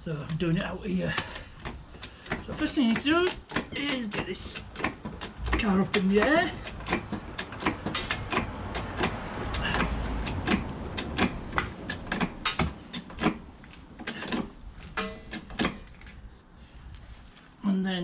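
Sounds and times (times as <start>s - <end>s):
car jack clicking: 0.1s - 16.3s.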